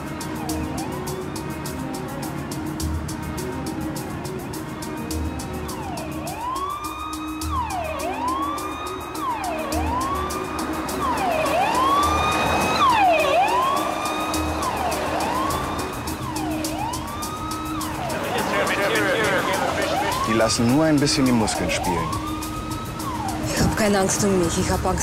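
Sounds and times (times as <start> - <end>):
police sirens wailing: 0.0 - 25.0.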